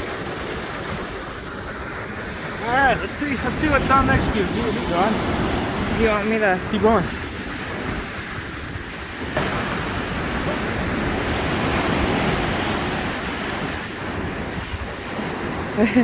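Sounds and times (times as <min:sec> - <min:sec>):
waves washing onto rocky shore: 0:00.0 - 0:16.0
wind on microphone: 0:00.0 - 0:16.0.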